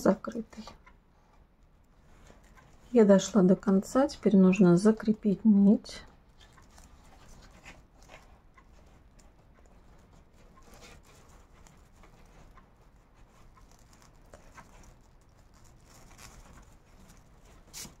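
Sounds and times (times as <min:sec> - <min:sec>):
paper yarn rustling and scratching: 0:01.9 - 0:18.0.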